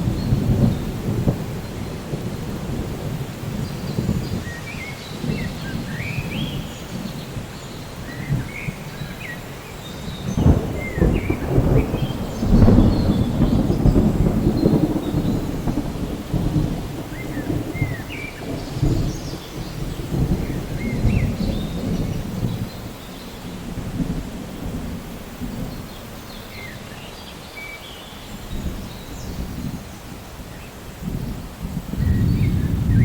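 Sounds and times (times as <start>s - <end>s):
thunder rumbling: 0.0s - 26.7s, 28.5s - 33.0s
rain falling: 0.0s - 33.0s.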